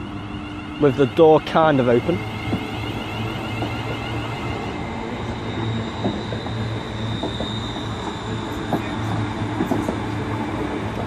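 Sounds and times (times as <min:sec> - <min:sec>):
train high whine: 0:00.0 - 0:11.0
train low hum: 0:00.0 - 0:11.0.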